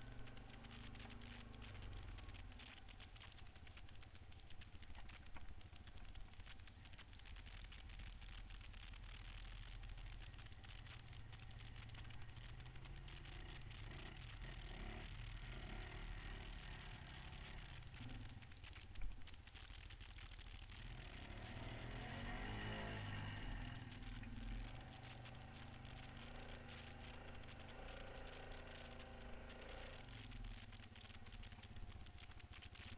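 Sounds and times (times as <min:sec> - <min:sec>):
quad bike engine rumbling: 0:00.0 - 0:32.9.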